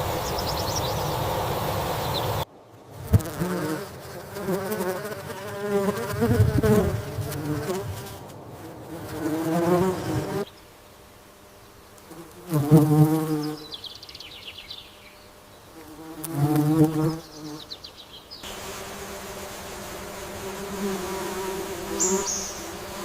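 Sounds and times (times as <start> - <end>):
flying insect buzzing: 0.0 - 23.0.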